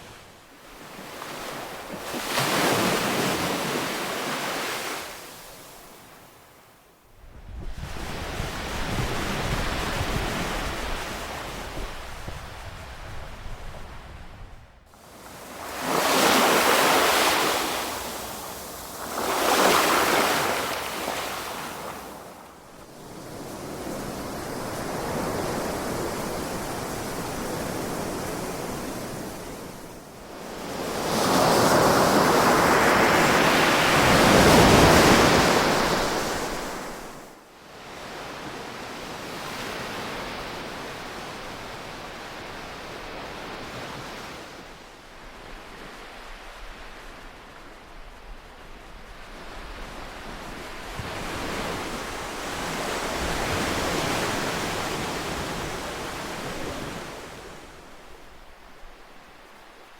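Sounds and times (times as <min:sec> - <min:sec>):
ocean waves breaking on shore: 0:00.0 - 0:06.5, 0:07.5 - 0:59.9.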